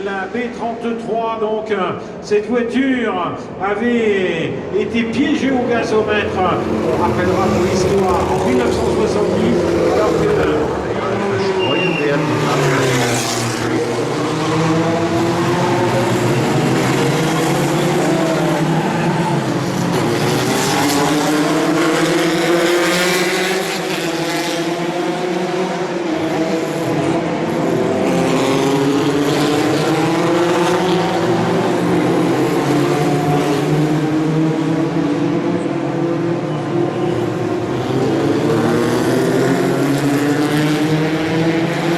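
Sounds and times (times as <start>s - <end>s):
racing car engines: 0.0s - 41.9s.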